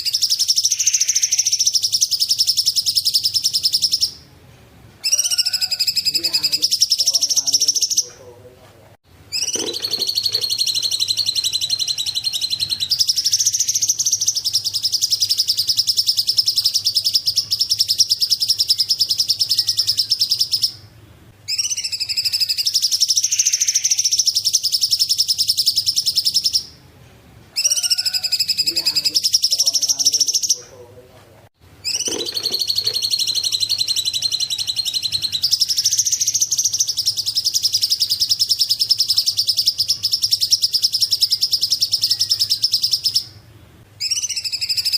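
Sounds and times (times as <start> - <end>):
bird singing trilled phrases: 0.0 - 4.3, 5.0 - 8.2, 9.3 - 20.9, 21.5 - 26.8, 27.6 - 30.8, 31.8 - 44.9.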